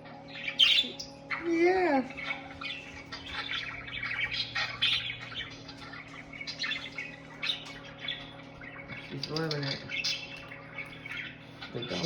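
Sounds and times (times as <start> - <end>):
steady low hum: 0.0 - 12.0
budgerigars chattering: 0.3 - 12.0.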